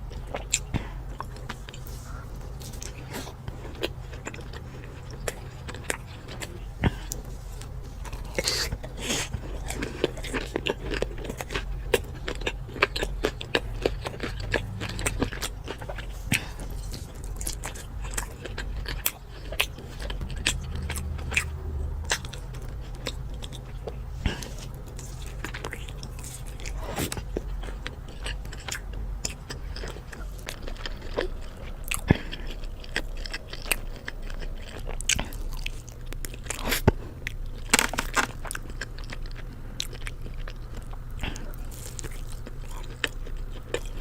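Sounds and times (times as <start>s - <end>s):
crunchy chewing of fried food: 0.0s - 44.0s.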